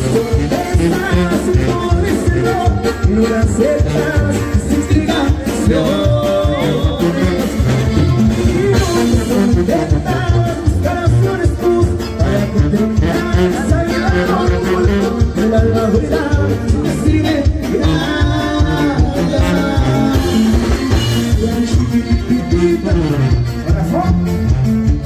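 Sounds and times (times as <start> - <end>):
live band playing dance music: 0.0 - 25.0
person singing: 0.0 - 25.0.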